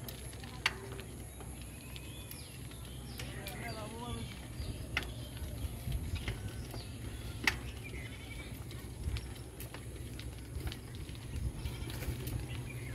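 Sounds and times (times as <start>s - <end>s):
wind rumbling on microphone: 1.0s - 12.9s.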